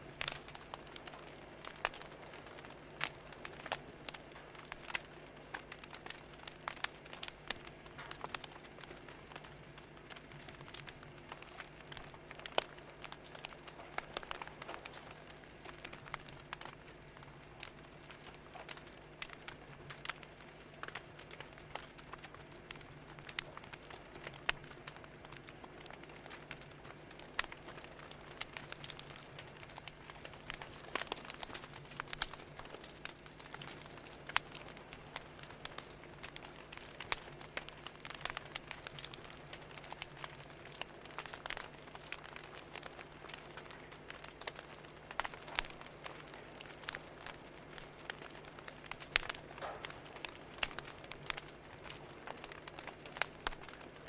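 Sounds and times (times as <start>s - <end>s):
faint steady hum: 0.0s - 54.0s
wood fire crackling: 0.0s - 54.0s.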